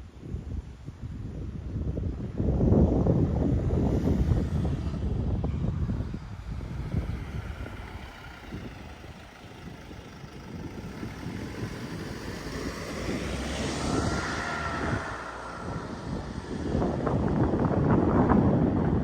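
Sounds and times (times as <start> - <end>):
wind buffeting microphone: 0.0 - 19.0
road vehicle engine: 0.1 - 19.0.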